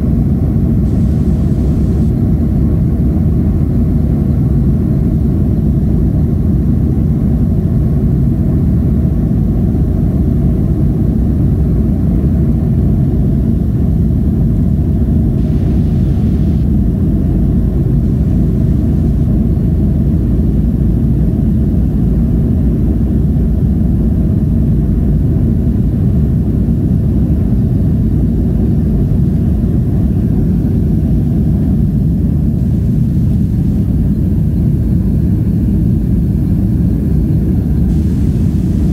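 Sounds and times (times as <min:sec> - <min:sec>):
jet engines and wheels rumbling: 0:00.0 - 0:38.9.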